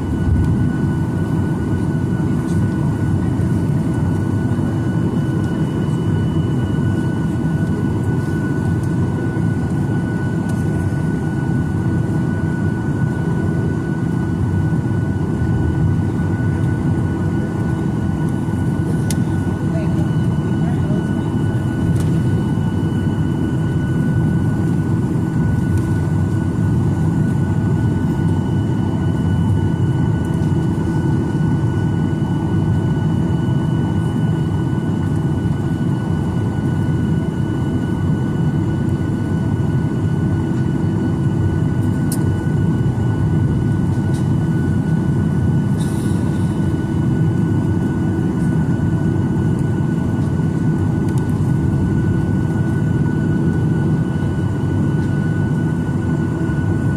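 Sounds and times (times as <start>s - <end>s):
airliner cabin engine rumble: 0.0s - 56.9s
jet engine whining tones: 0.0s - 56.9s.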